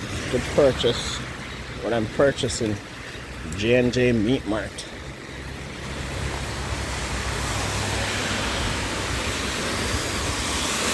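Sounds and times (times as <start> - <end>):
heavy rain falling: 0.0 - 10.9.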